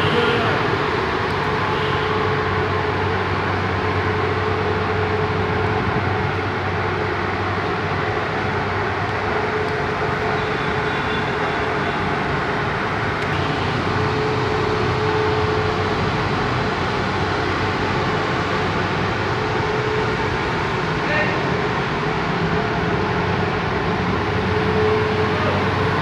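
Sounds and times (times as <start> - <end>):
vehicle running noise: 0.0 - 26.0.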